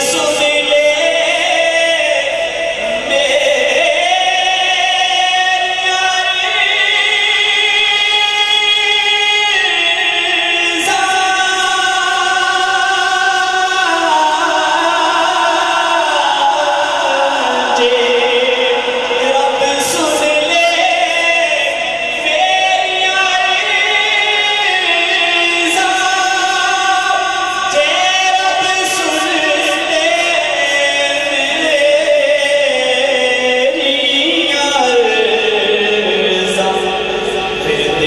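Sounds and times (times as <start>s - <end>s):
man singing into a microphone: 0.0s - 38.0s.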